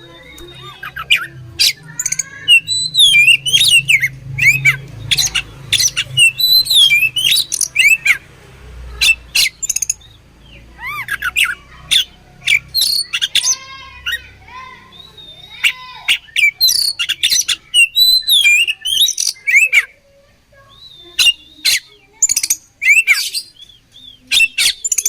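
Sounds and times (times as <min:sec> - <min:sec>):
bird singing chirps and whistles: 0:00.0 - 0:08.2, 0:09.0 - 0:13.6, 0:14.9 - 0:19.9, 0:20.7 - 0:25.0.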